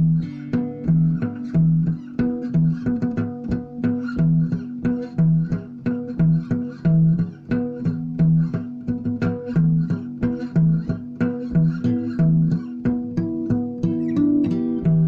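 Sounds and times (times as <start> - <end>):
guitar picking notes: 0.0 - 15.0.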